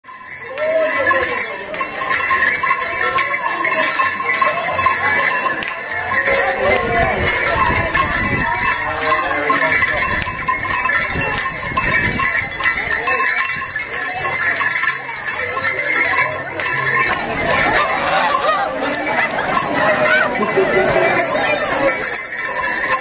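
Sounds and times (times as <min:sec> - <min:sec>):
bell ringing: 0:00.0 - 0:23.0.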